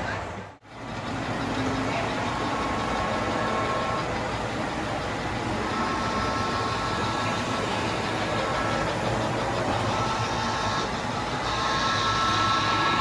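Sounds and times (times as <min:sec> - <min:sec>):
model train humming: 0:00.1 - 0:13.0
faint steady tones: 0:00.7 - 0:13.0.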